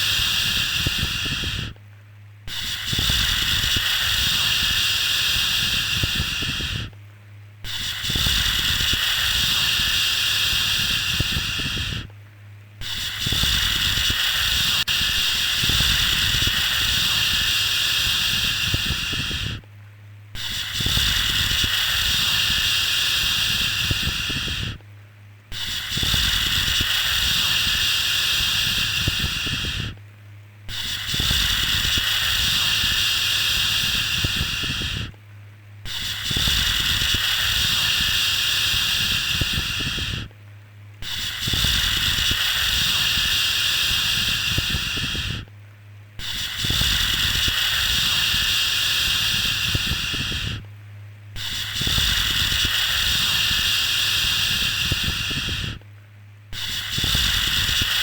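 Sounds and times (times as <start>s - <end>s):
low steady hum: 0.0s - 53.6s, 54.6s - 58.0s.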